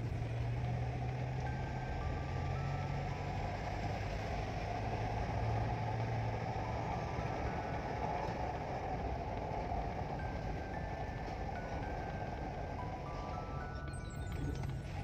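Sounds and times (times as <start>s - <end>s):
car engine and tyres drone: 0.0s - 15.0s.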